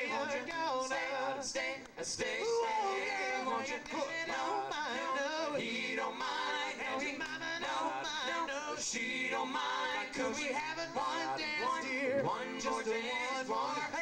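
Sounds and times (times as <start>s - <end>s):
male vocal group singing in harmony: 0.0s - 14.0s.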